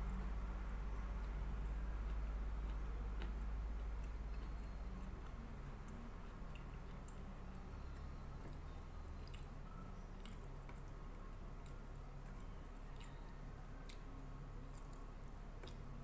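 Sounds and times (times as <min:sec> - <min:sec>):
low steady hum: 0:00.0 - 0:16.0
person chewing rice: 0:01.0 - 0:16.0.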